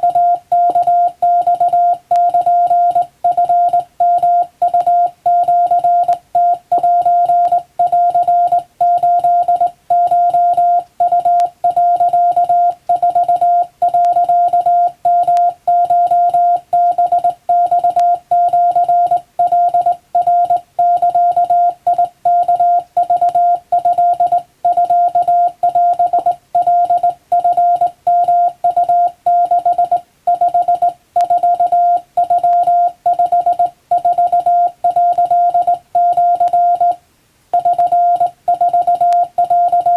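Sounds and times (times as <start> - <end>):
morse code tone: 0.0 - 37.0, 37.6 - 39.9.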